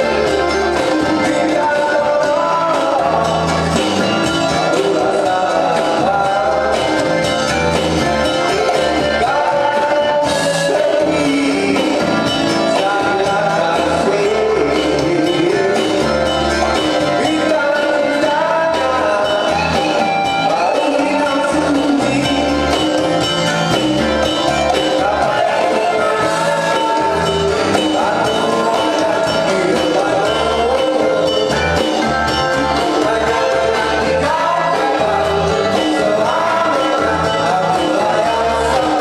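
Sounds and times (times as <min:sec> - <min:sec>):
backing music with bass line: 0:00.0 - 0:39.0
man singing into a microphone: 0:00.0 - 0:39.0.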